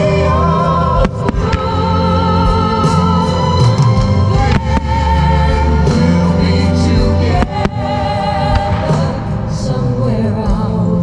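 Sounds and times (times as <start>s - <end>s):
music with choir singing: 0.0s - 11.0s.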